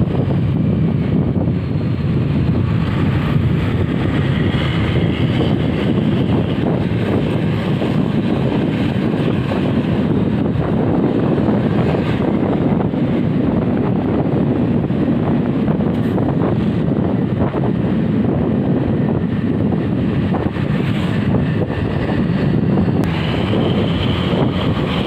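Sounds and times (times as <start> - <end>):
vehicle engine and road noise: 0.0 - 25.0
wind buffeting microphone: 0.0 - 25.0.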